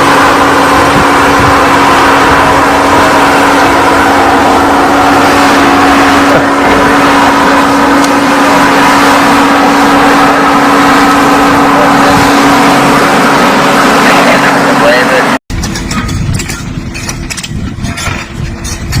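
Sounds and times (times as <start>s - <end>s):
heavy equipment diesel engine: 0.0s - 19.0s
steady hum: 0.0s - 19.0s.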